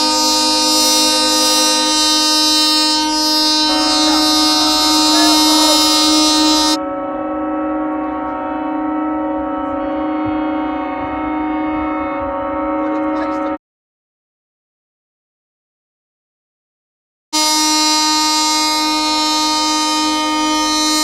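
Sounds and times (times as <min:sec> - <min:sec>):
ship horns blasting: 0:00.0 - 0:13.6, 0:17.4 - 0:21.0.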